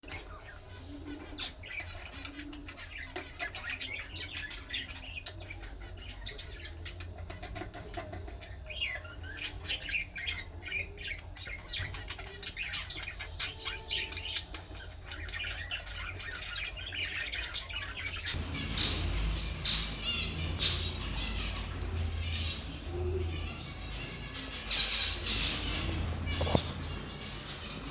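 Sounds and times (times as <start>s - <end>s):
cage birds chirping and squawking: 0.0s - 27.9s.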